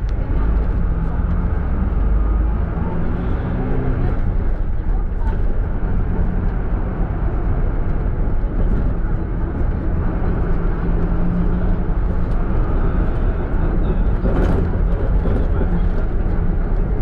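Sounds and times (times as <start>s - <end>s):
minibus engine rumble: 0.0s - 17.0s
road noise: 0.0s - 17.0s.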